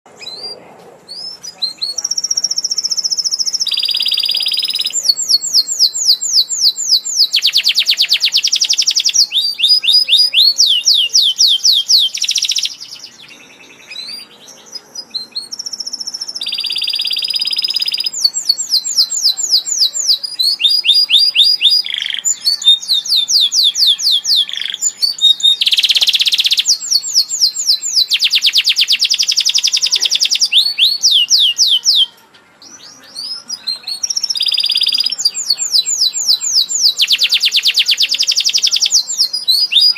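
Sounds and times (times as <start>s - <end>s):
canary singing: 0.1s - 39.9s.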